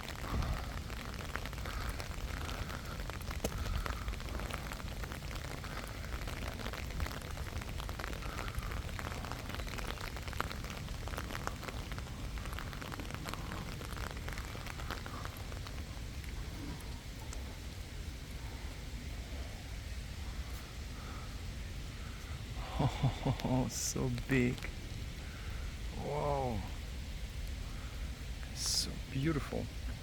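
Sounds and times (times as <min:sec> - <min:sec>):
low rumble: 0:00.0 - 0:28.9
rain pattering: 0:00.0 - 0:30.0.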